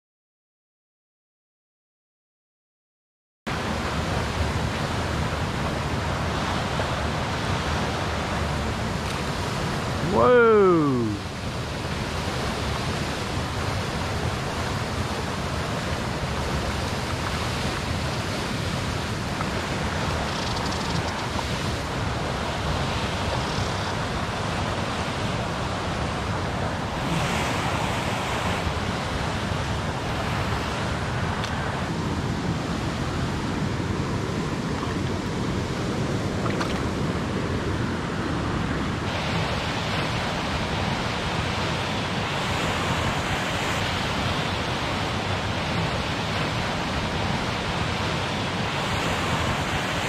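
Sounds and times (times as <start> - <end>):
river water rushing: 3.5 - 50.0.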